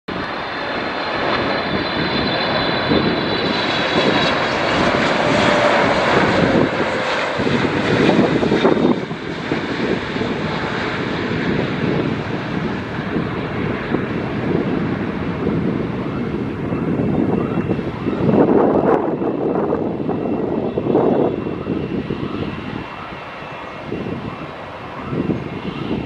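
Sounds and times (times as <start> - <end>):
high jet whine: 0.1 - 26.0
jet engine noise: 0.1 - 26.0.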